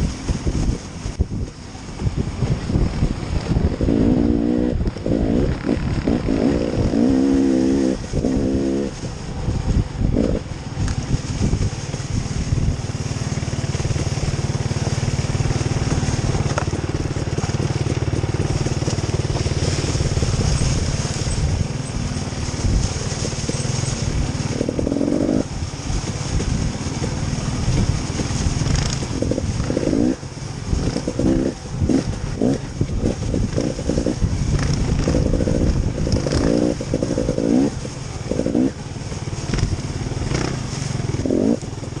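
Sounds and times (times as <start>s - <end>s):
vehicle engine revving: 2.4s - 42.0s.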